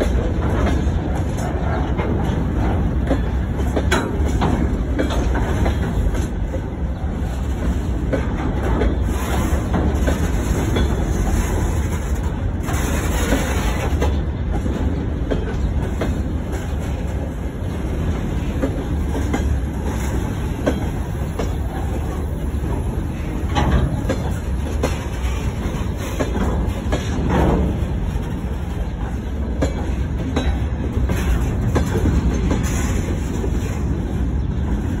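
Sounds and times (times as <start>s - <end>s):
rumble of wheels on rail: 0.0s - 35.0s
wheels clicking over rail joints: 0.0s - 35.0s.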